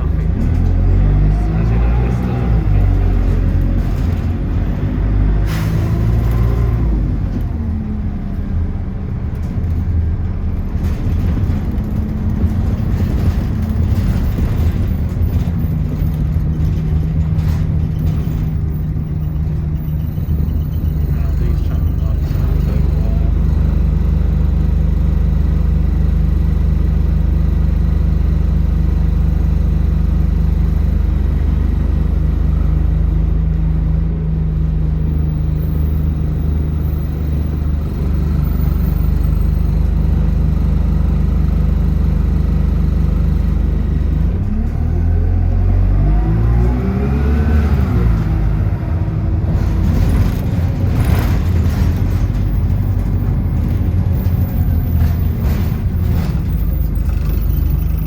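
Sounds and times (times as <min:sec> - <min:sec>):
bus engine revving: 0:00.0 - 0:27.5, 0:28.6 - 0:58.0.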